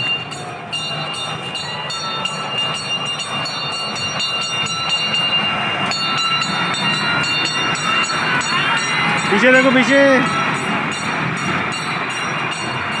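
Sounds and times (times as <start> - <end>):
train wheels clicking over rails: 0.0 - 13.0.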